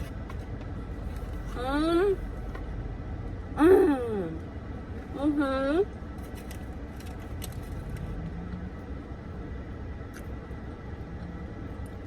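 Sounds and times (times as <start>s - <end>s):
car engine and air conditioning hum: 0.0s - 12.0s.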